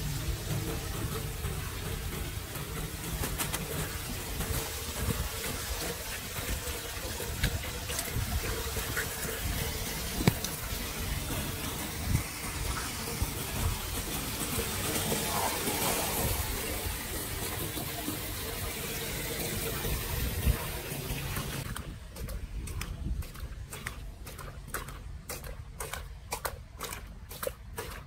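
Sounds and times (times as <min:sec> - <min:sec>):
floodwater gushing through drain grate: 0:00.0 - 0:28.0.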